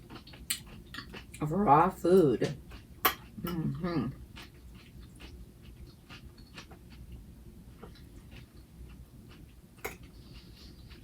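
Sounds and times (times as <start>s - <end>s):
chewing crunchy salad: 0.0s - 11.0s.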